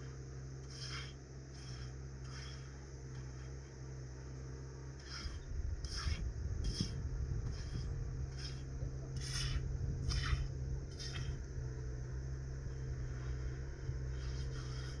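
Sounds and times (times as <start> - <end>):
rasping scrapes: 0.0 - 3.8, 4.9 - 11.5, 12.6 - 15.0
steady low hum: 0.0 - 15.0.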